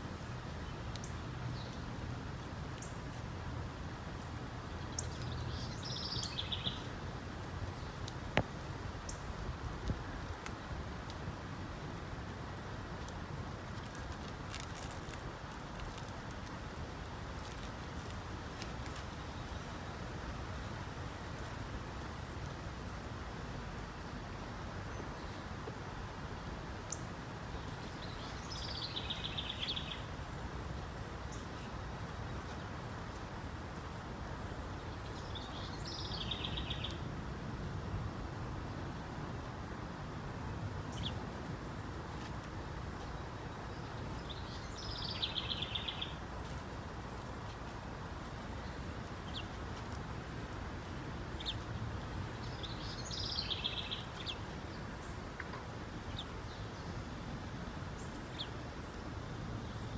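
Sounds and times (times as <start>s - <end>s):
low outdoor background noise: 0.0s - 59.9s
songbird trilling song: 0.2s - 23.0s, 24.0s - 38.3s, 40.4s - 41.4s, 42.0s - 49.9s, 50.9s - 59.0s.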